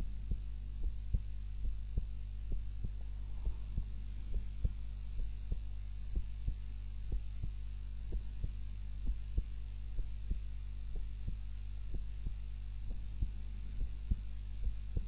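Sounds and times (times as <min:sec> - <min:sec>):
human heartbeat: 0:00.0 - 0:15.0
low steady hum: 0:00.0 - 0:15.0.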